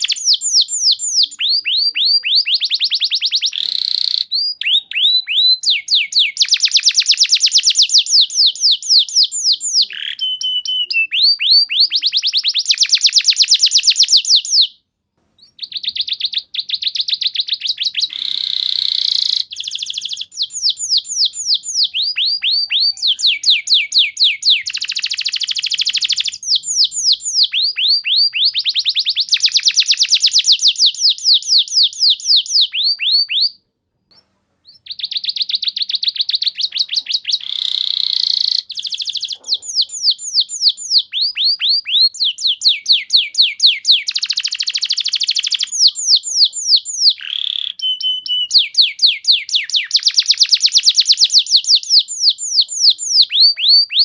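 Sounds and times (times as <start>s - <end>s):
canary singing trills: 0.0s - 14.8s, 15.4s - 33.6s, 34.6s - 54.0s.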